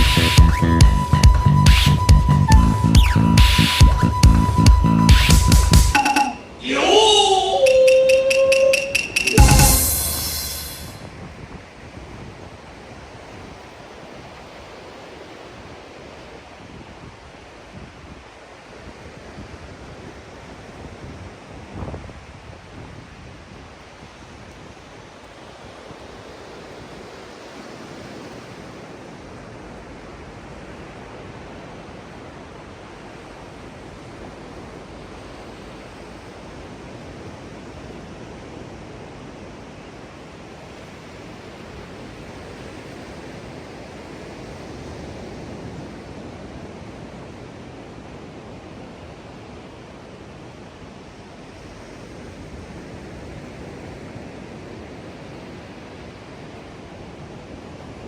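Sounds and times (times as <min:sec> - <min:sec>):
ocean waves washing onto beach: 0:06.0 - 0:58.0.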